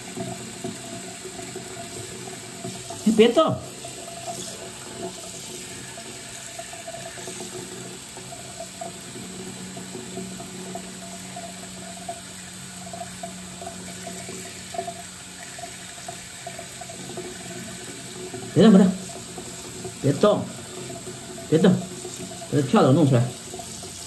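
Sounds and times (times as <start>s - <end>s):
faucet running into sink: 0.0s - 24.0s.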